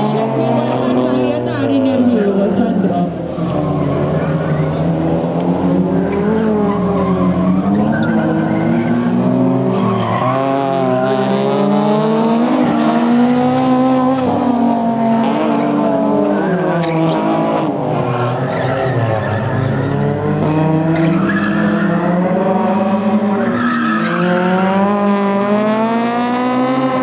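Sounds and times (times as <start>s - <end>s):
race car engine revving: 0.0s - 27.0s.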